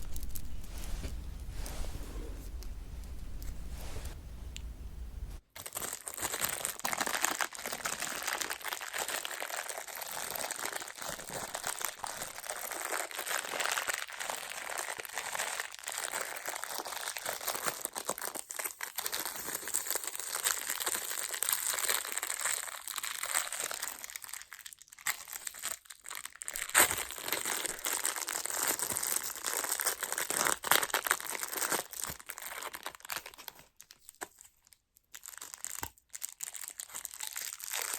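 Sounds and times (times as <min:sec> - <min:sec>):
plastic wrapper crinkling: 0:00.0 - 0:01.6, 0:05.5 - 0:37.9.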